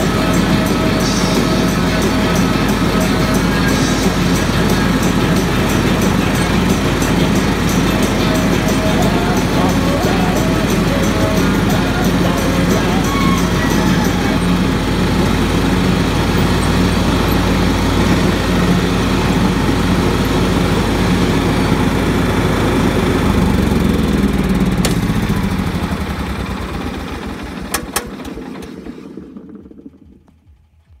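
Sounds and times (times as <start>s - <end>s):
riding lawn mower engine: 0.0s - 31.0s.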